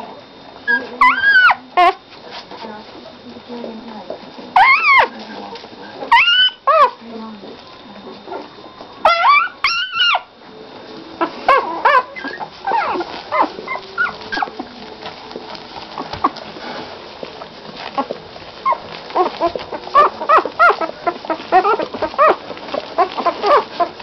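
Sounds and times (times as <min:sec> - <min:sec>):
puppies whimpering and squealing: 0:00.0 - 0:02.0, 0:04.5 - 0:07.0, 0:08.2 - 0:10.4, 0:11.2 - 0:24.0.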